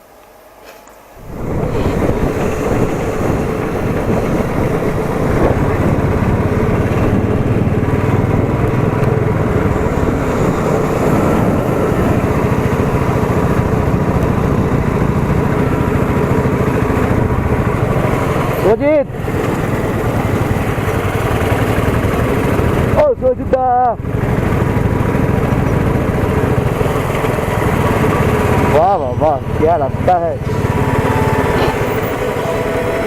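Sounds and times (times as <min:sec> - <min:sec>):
road noise: 0:00.0 - 0:33.0
motorcycle engine running: 0:01.2 - 0:33.0.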